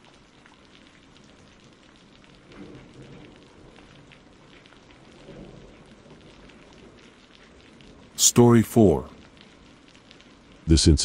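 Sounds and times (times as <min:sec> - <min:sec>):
faint rain hiss: 0:00.0 - 0:11.0.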